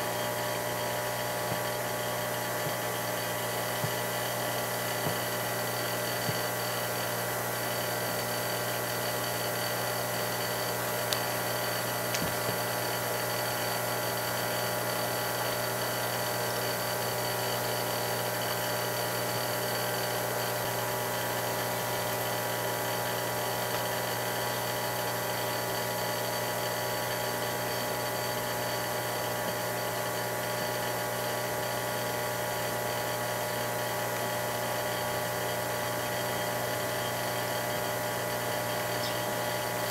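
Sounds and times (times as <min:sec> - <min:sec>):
electric hum and whine: 0:00.0 - 0:39.9.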